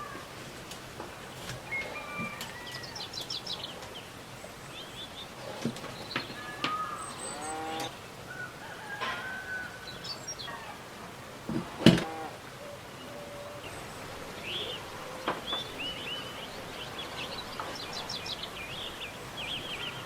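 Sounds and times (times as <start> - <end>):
birds singing and chirping: 1.0 - 10.9, 11.5 - 20.0.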